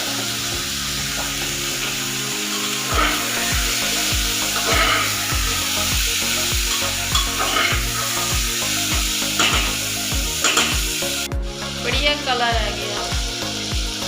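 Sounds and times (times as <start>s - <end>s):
background music with steady beat: 0.0s - 14.0s
chicken and onions sizzling: 0.0s - 14.0s.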